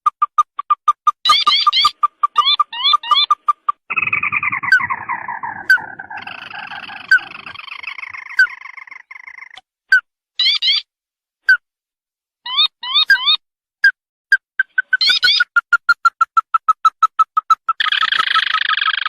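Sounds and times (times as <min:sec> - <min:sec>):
recorded crake calls: 0:00.0 - 0:10.8, 0:12.5 - 0:19.0.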